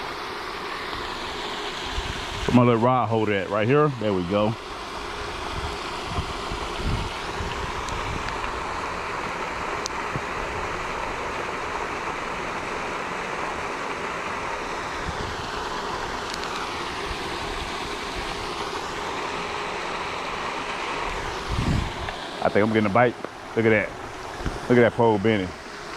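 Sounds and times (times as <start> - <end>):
faint whine: 0.0 - 25.9
fountain water splashing: 0.0 - 25.9.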